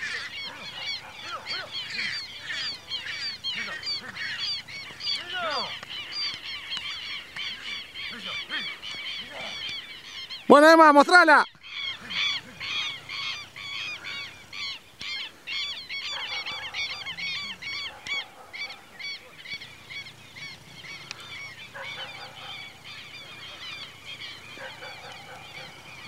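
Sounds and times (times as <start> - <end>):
flock of birds honking: 0.0 - 26.0.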